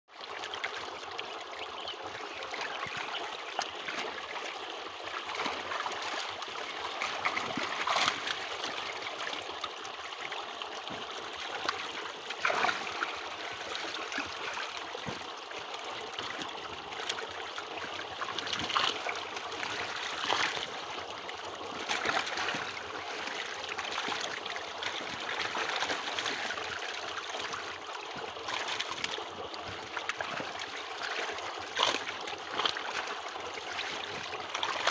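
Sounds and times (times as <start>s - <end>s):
water draining through net: 0.1s - 34.9s
water splashing and trickling: 0.1s - 34.9s.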